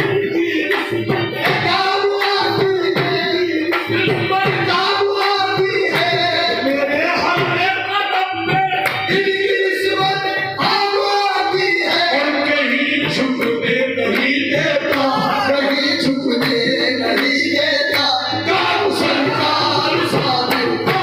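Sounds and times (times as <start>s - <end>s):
instrumental accompaniment: 0.0s - 21.0s
voices singing together: 0.0s - 21.0s.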